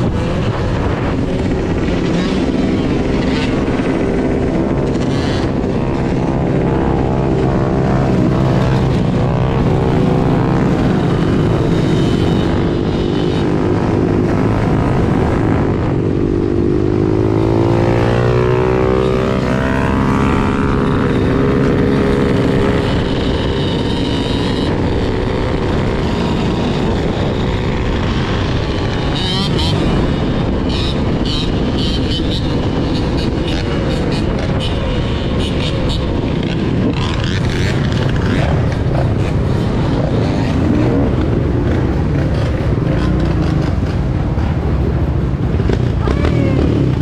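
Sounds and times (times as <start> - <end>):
dirt bike engine revving: 0.0 - 44.3
other dirt bike engines: 0.0 - 47.0.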